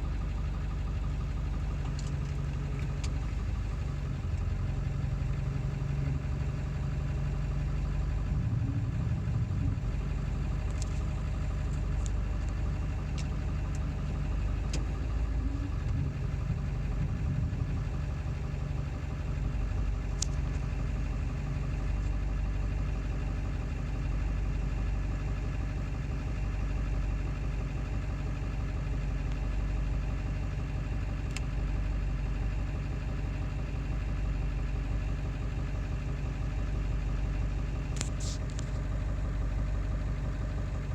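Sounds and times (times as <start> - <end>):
diesel engine idling with clatter: 0.0 - 40.9.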